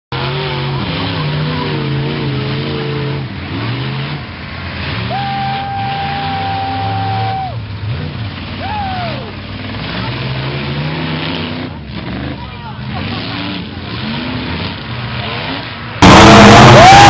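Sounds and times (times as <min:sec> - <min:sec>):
truck engine revving: 0:00.1 - 0:17.0.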